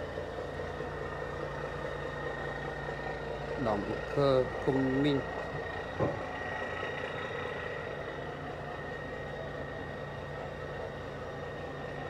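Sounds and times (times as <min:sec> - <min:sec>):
diesel engine idling: 0:00.0 - 0:12.0
faint high whine: 0:00.0 - 0:12.0.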